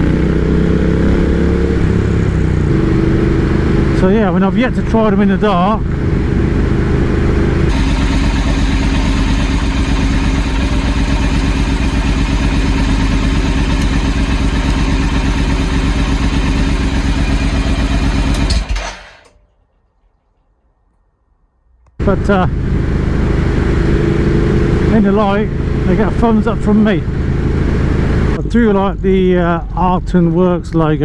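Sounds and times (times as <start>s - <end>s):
motorcycle engine running: 0.0s - 19.3s, 22.0s - 30.0s.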